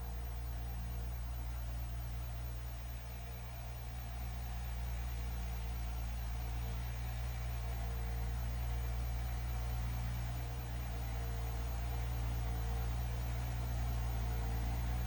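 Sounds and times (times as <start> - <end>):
mini excavator engine droning: 0.0 - 15.0.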